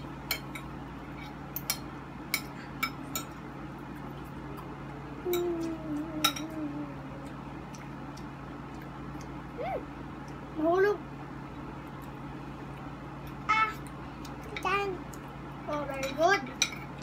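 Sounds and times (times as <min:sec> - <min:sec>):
low hum: 0:00.0 - 0:15.9.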